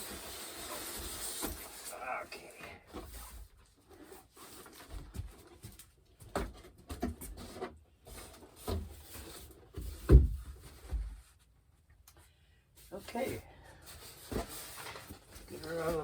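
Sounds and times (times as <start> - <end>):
cardboard packaging rustling: 0.0 - 11.0, 13.0 - 16.0.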